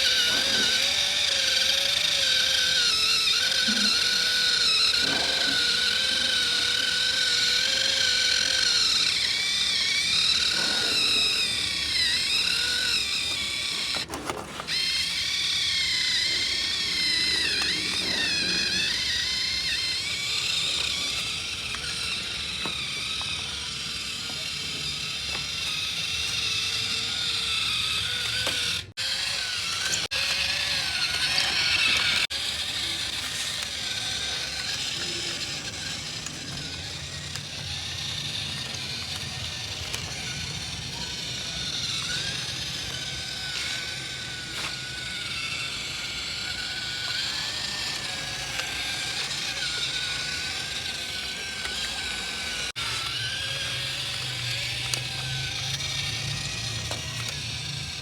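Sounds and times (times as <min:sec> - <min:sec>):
toy motor and gears whirring: 0:00.0 - 0:58.0.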